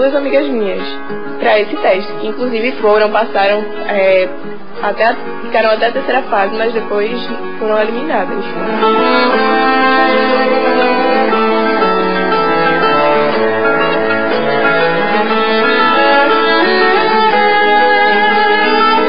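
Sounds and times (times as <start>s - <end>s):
violin and strings playing: 0.0s - 19.0s.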